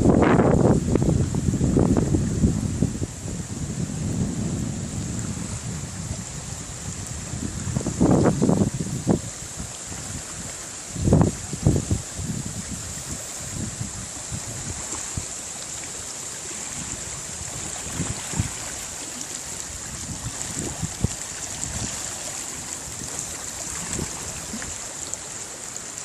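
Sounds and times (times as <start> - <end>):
wind buffeting microphone: 0.0 - 15.4, 16.4 - 25.1
rushing hiss: 0.7 - 26.0.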